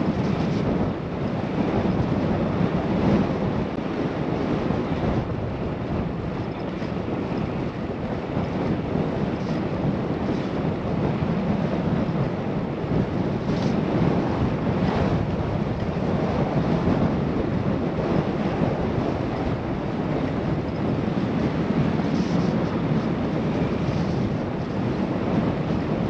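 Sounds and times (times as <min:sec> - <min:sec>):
wind rushing on microphone: 0:00.0 - 0:26.0.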